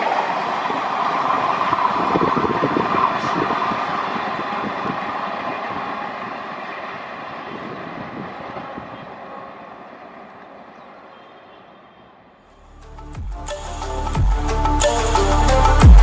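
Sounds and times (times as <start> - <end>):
train rumbling on track: 0.0 - 14.7.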